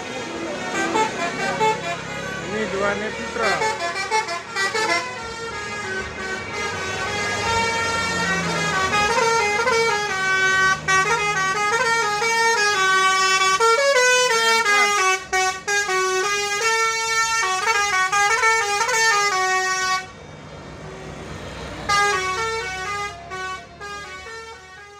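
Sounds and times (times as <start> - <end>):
musical bus horn playing tune: 0.1 - 20.2, 21.8 - 24.9.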